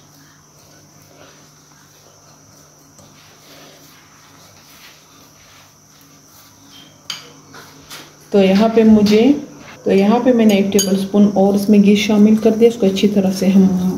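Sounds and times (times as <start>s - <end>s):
high-pitched background whine: 0.0s - 13.9s.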